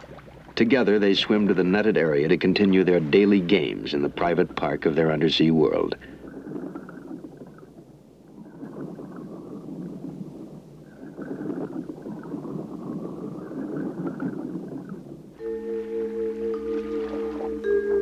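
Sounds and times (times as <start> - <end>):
muffled churning water: 0.0 - 18.0.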